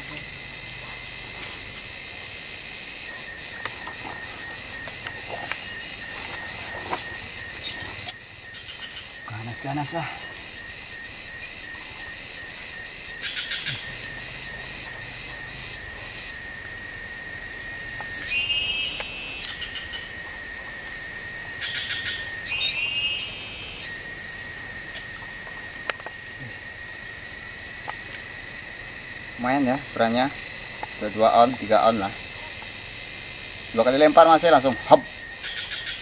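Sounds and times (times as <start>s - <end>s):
insect chirping calls: 0.0s - 36.0s
insects shrilling and buzzing: 0.0s - 36.0s.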